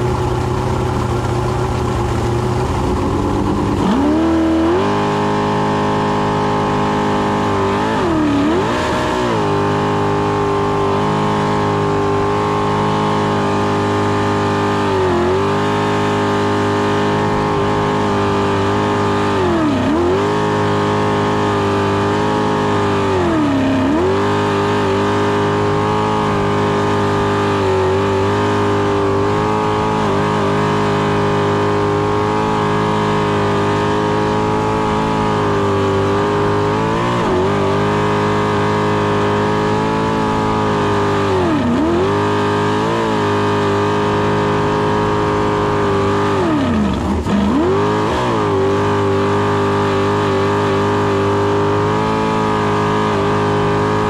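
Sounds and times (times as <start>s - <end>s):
boat engine at high revs: 0.0s - 54.0s.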